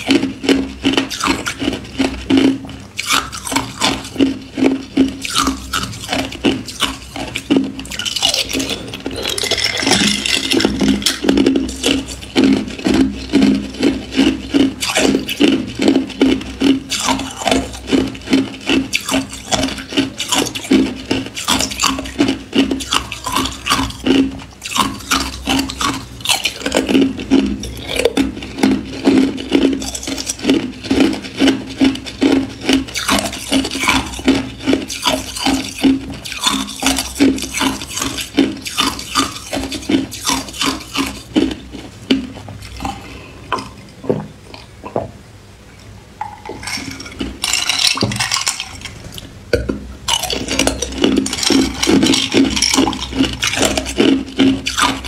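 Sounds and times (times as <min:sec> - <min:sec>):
ice cubes crunched between teeth: 0:00.0 - 0:43.8, 0:46.2 - 0:49.2, 0:50.1 - 0:55.0.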